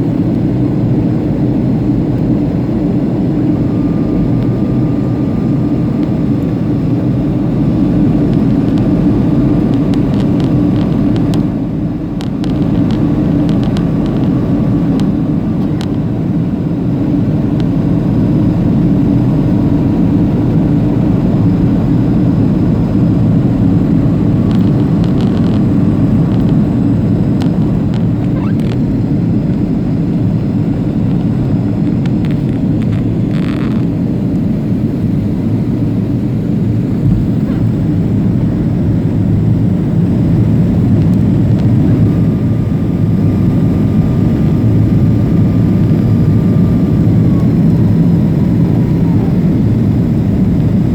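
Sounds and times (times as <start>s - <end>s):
jet engine drone: 0.0s - 50.9s.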